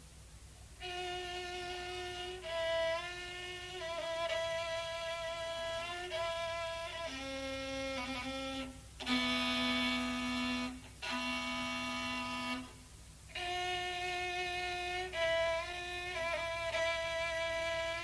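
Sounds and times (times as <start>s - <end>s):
bowed fiddle slow melody: 0.8s - 18.0s.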